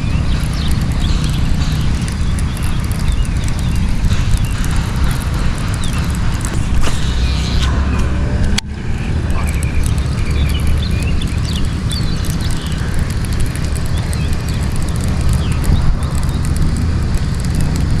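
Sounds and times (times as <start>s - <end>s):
low rumble: 0.0s - 18.0s
small birds chirping: 0.0s - 18.0s.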